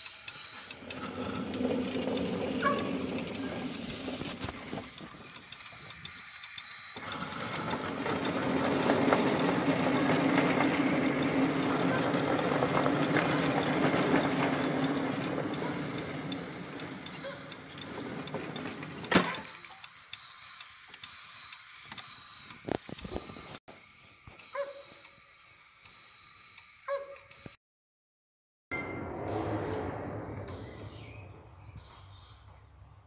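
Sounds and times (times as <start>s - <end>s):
model steam locomotive running: 0.0s - 27.4s.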